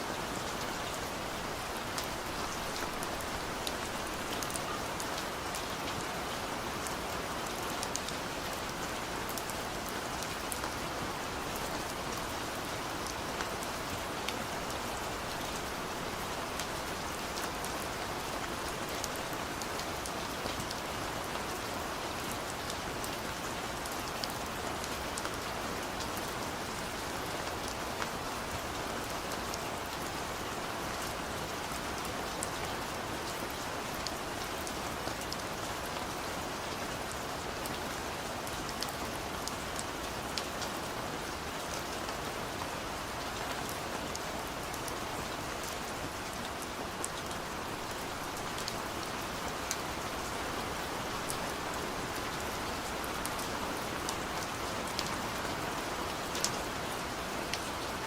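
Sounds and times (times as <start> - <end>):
heavy rain falling: 0.1 - 58.0.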